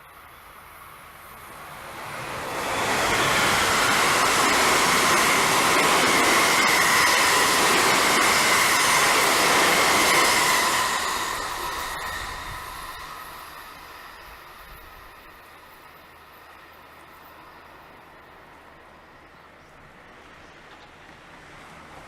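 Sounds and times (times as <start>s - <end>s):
train wheels rushing on rail: 0.0s - 22.0s.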